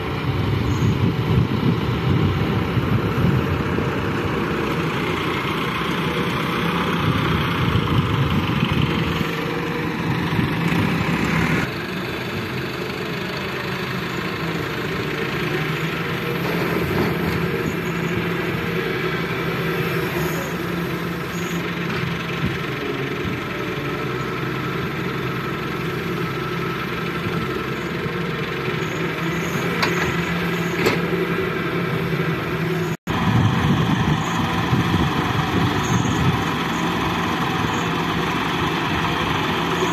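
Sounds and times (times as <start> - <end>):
diesel engines running: 0.0 - 39.9
excavator loading soil: 0.0 - 39.9.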